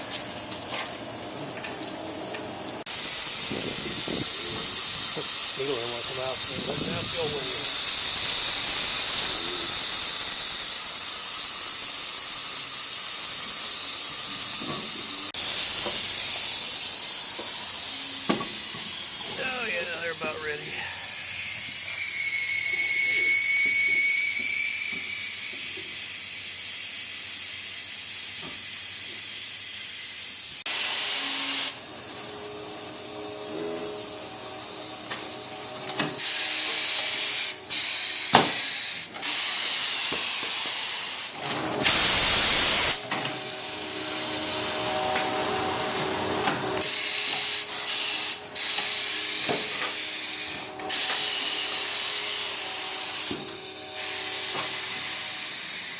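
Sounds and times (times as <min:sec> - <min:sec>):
loud blast of air: 0:02.8 - 0:29.0, 0:33.9 - 0:55.9
compressed air hissing: 0:02.8 - 0:55.9.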